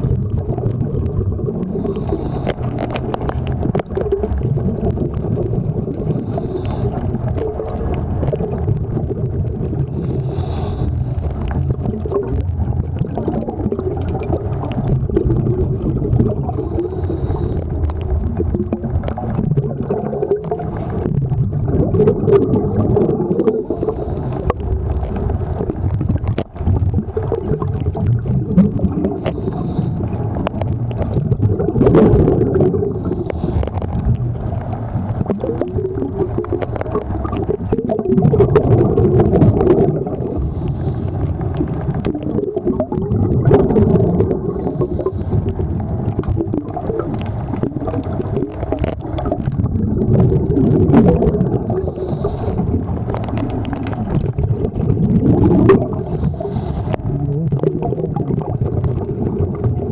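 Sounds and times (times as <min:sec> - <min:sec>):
exhaled bubbles from regulator: 0:00.0 - 0:59.9
steady low rumble: 0:00.0 - 0:59.9.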